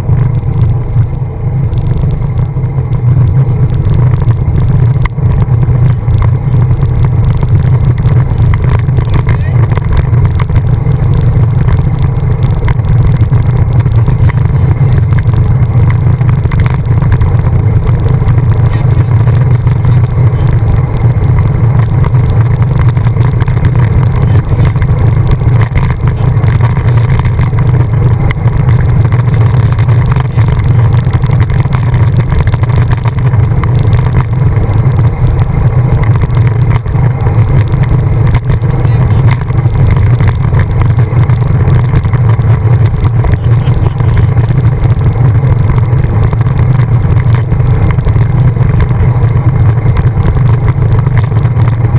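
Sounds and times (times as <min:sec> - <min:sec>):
wind rumble on microphone: 0:00.0 - 0:51.9.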